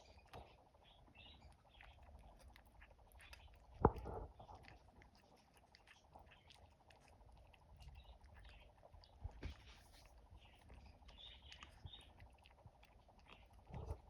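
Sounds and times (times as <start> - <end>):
animal chewing food: 0.0 - 14.0.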